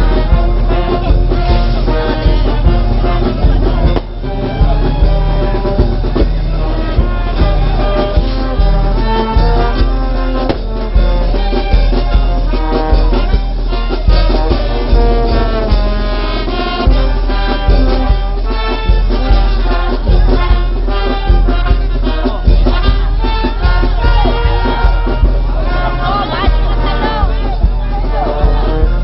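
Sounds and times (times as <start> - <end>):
brass band playing: 0.0 - 29.0.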